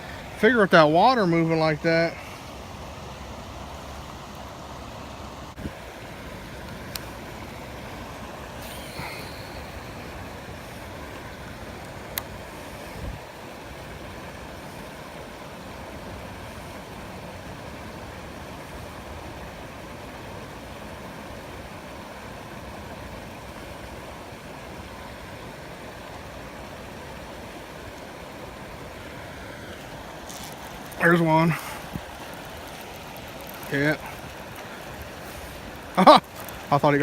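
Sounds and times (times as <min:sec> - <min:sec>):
rushing water: 0:00.0 - 0:37.0.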